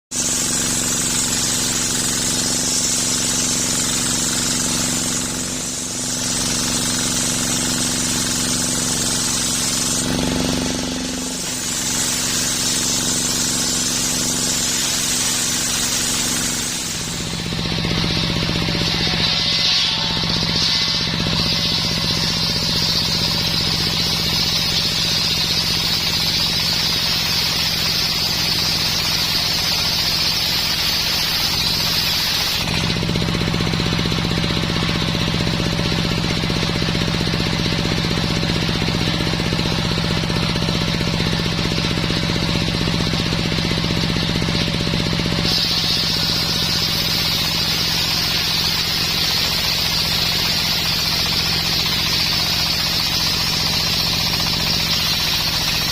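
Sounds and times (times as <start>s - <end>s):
circular sawmill sawing wood: 0.1s - 55.9s.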